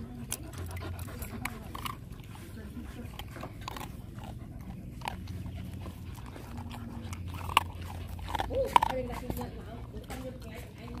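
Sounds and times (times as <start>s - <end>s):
dog crunching dry kibble: 0.0s - 11.0s.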